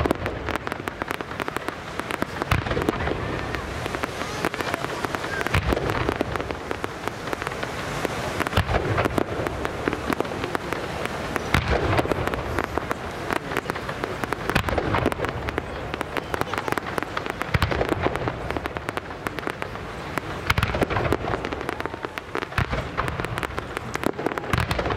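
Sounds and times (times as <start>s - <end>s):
fireworks bangs and crackles: 0.0s - 24.9s
loud fireworks booms: 0.0s - 24.9s.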